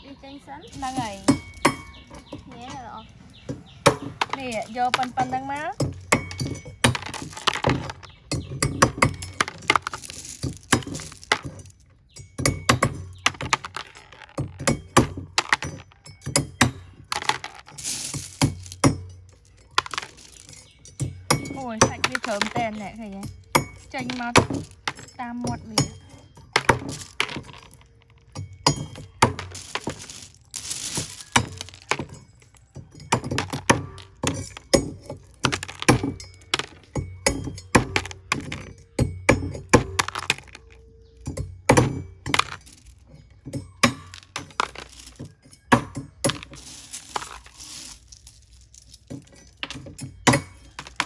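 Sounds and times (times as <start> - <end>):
cleaver chopping shells: 3.4 - 51.0.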